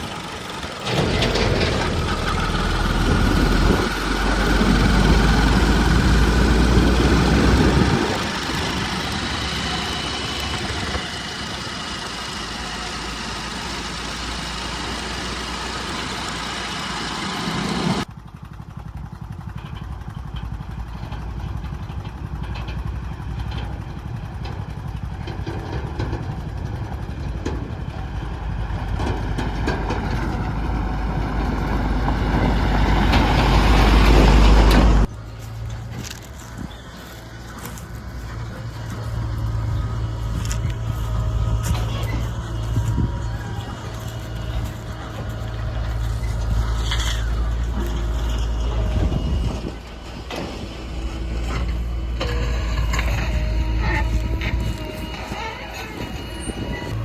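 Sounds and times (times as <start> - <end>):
diesel engine labouring: 0.0 - 57.0.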